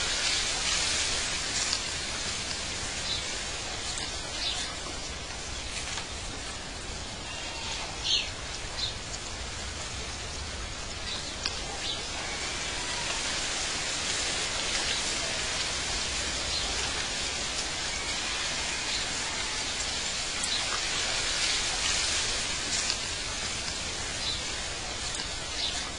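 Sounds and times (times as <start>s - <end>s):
rain-like hiss: 0.0s - 25.9s.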